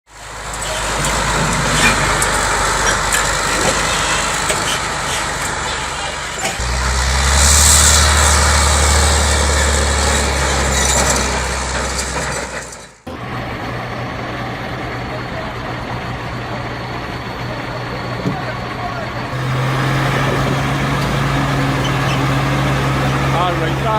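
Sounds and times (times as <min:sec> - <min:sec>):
engine running steadily: 0:00.1 - 0:23.9
truck engine under load: 0:00.1 - 0:23.9.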